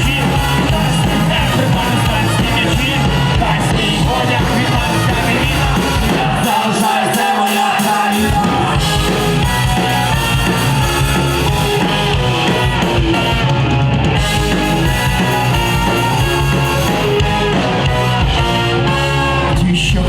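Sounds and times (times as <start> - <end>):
drums: 0.0 - 20.0
guitar: 0.0 - 20.0
live rock band playing: 0.0 - 20.0.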